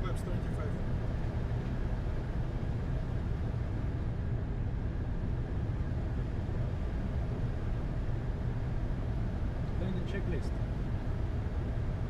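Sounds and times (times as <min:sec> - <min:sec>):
airflow and engine rumble: 0:00.0 - 0:12.0.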